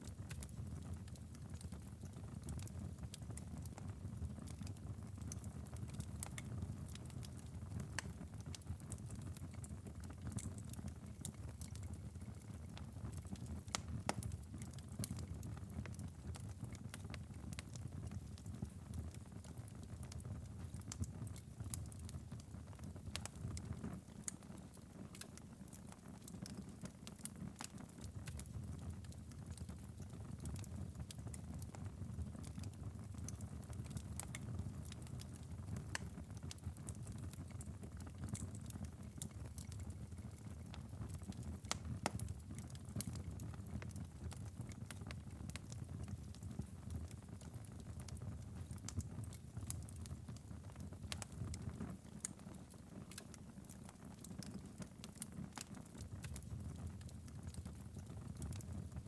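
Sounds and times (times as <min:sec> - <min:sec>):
wood fire pops and snaps: 0:04.4 - 0:59.0.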